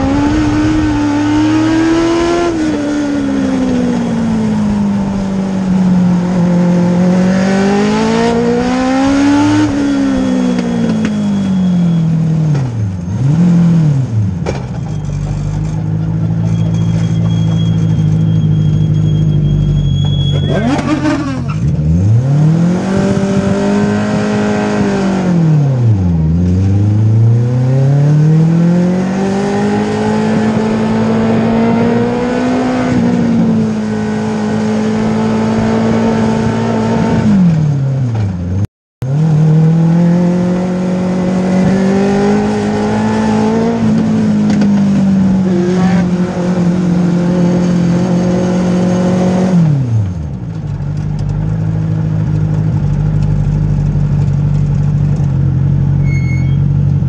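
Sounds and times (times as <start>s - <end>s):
race car engine from cockpit: 0.0s - 57.0s.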